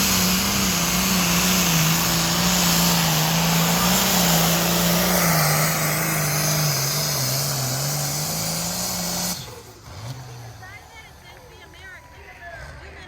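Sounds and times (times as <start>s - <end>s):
tractor engine revving hard: 0.0s - 13.0s.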